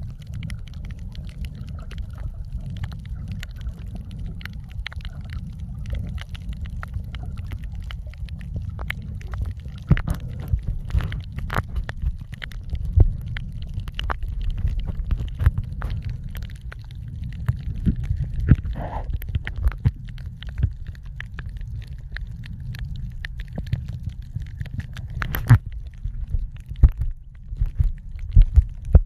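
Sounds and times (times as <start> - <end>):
muffled underwater water rumble: 0.0 - 29.0
sharp clicks and crackles: 0.0 - 29.0.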